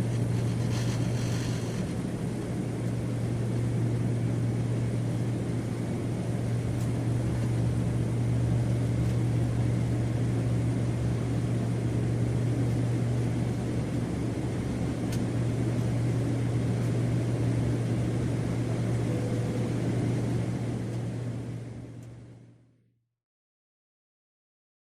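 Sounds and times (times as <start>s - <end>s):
airplane cabin drone: 0.0s - 22.8s.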